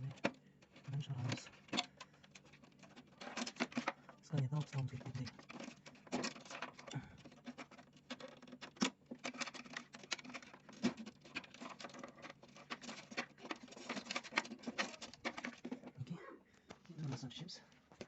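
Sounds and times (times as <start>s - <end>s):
plastic parts clicking and scraping: 0.0s - 18.0s.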